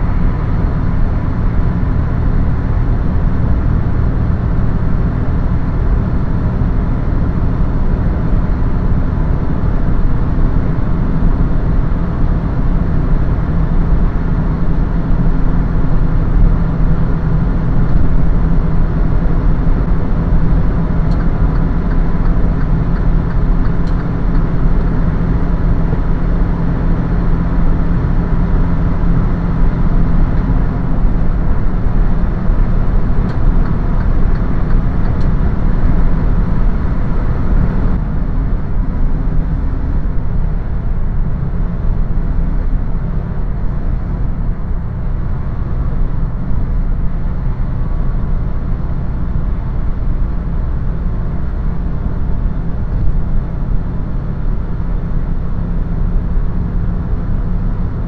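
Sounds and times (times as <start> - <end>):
road noise: 0.0 - 58.0
truck diesel engine drone: 0.0 - 58.0.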